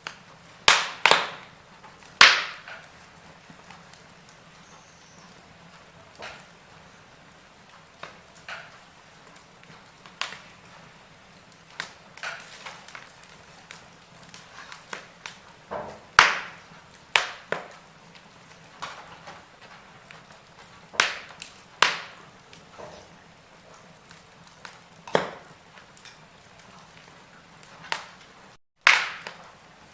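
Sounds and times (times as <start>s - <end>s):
fire hissing: 0.0s - 29.9s
wood fire crackling and popping: 0.0s - 29.9s.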